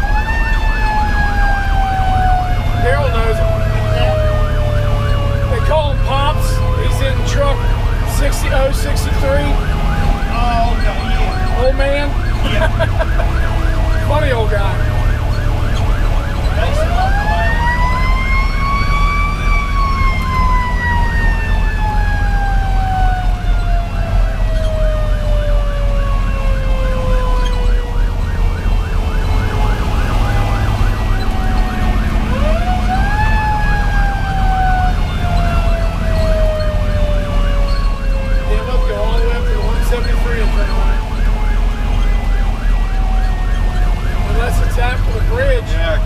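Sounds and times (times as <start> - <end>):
diesel truck engine rumble: 0.0 - 46.0
mechanical siren wailing: 0.0 - 46.0
second siren warbling rapidly: 0.0 - 46.0.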